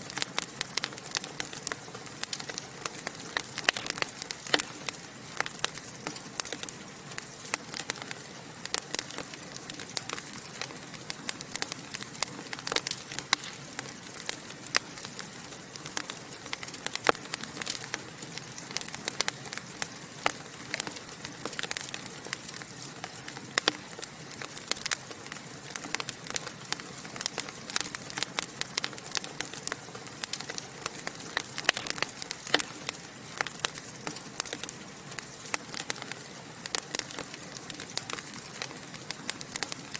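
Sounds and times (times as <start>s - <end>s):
soft hiss of burning: 0.0s - 39.9s
wood fire crackling and popping: 0.0s - 39.9s.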